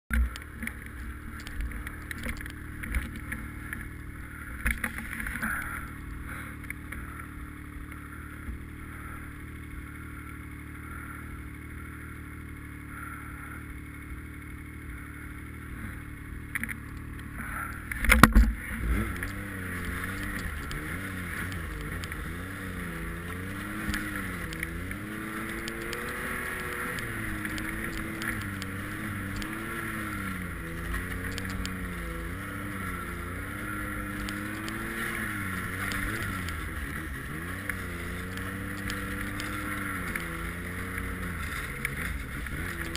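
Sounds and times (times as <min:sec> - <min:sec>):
snowmobile engine revving: 0:00.2 - 0:42.9.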